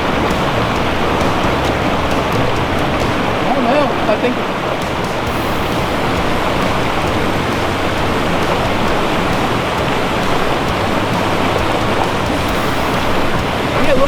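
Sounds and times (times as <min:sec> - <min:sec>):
creek water rushing over rocks: 0:00.0 - 0:14.0.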